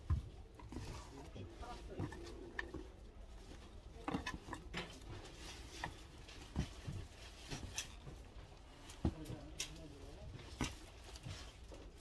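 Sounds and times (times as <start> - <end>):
rustling of flower stems: 0.0 - 12.0.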